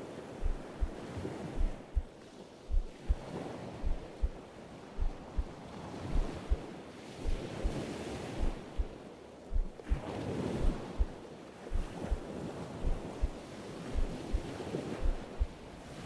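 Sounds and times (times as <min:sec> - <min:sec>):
slow heartbeat thumps: 0:00.4 - 0:02.1, 0:02.7 - 0:04.4, 0:05.0 - 0:15.6.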